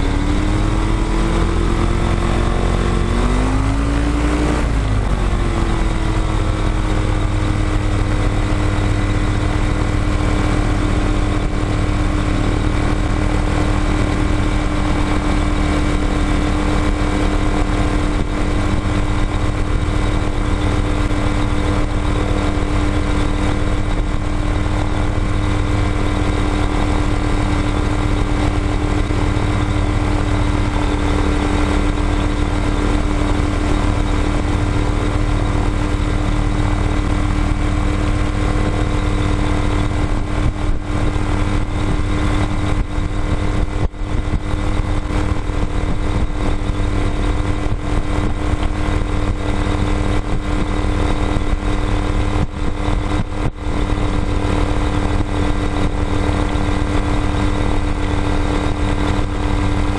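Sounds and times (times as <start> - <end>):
light airplane engine and propeller: 0.0 - 59.9.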